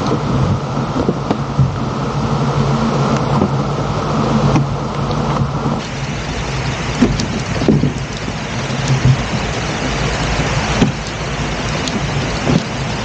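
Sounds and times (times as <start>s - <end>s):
boat engine running: 0.0s - 13.0s
continuous rushing noise: 0.0s - 13.0s.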